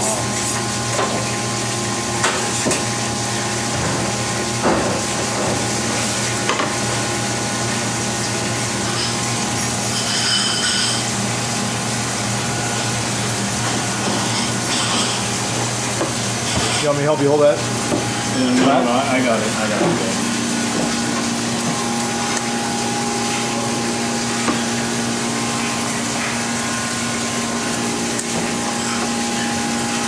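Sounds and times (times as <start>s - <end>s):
kitchen hiss and hum: 0.0s - 30.0s.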